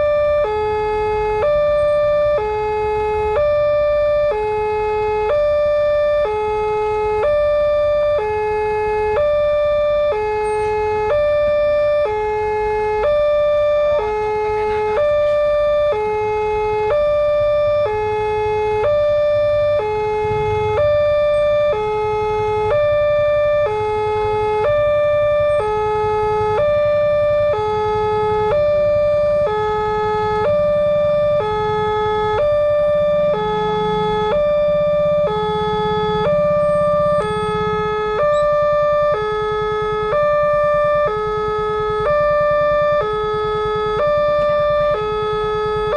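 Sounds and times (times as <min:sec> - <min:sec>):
level crossing two-tone alarm: 0:00.0 - 0:45.9.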